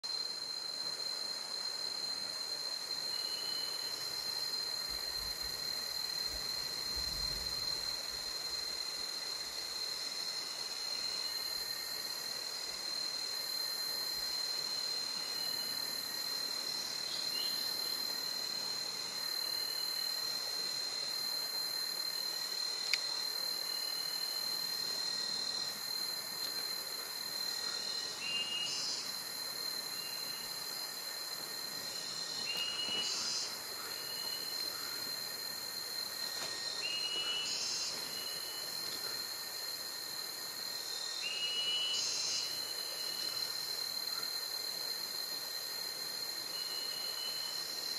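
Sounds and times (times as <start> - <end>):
high-pitched insect drone: 0.1 - 47.9.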